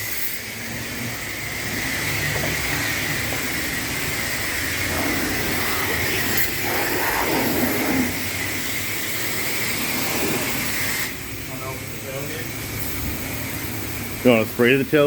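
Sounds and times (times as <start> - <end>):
high whine: 0.0 - 15.0
pressure washer spraying water: 0.0 - 15.0.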